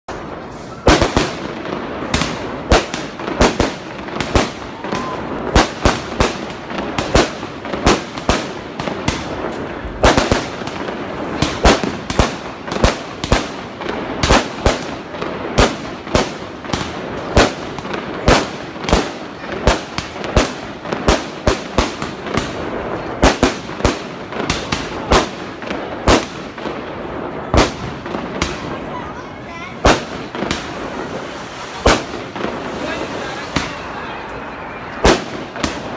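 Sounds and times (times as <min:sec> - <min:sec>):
firework bangs: 0:00.1 - 0:35.9.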